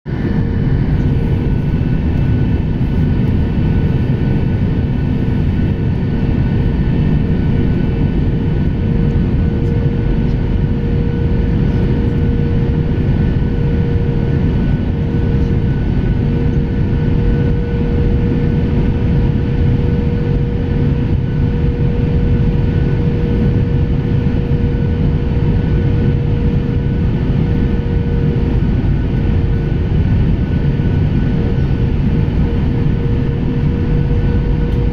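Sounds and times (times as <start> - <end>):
airliner cabin engine rush: 0.1 - 34.9
steady engine hum: 0.1 - 34.9.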